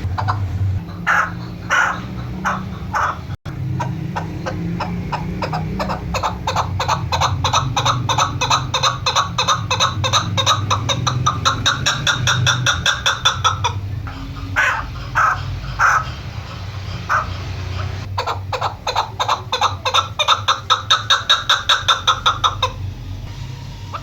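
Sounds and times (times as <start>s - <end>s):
partridge clucking: 0.0s - 22.9s
steady low hum: 0.0s - 24.0s.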